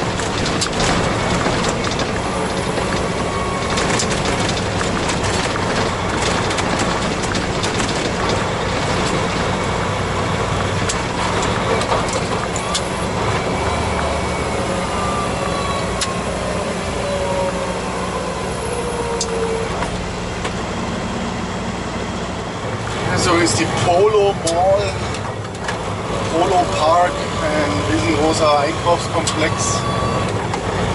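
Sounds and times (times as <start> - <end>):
road noise: 0.0 - 30.9
truck diesel engine running: 0.0 - 30.9.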